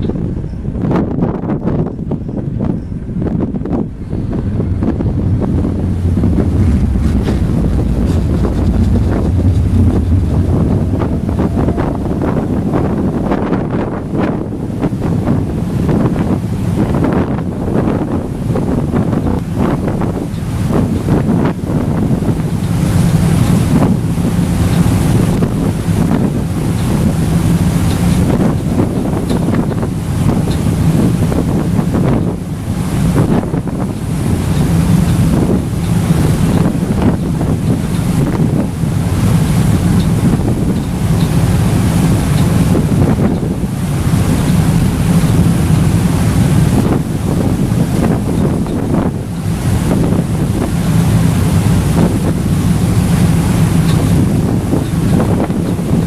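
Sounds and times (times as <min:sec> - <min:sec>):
ferry engine drone: 0:00.0 - 0:56.0
water rushing along hull: 0:00.0 - 0:56.0
wind buffeting microphone: 0:00.0 - 0:56.0.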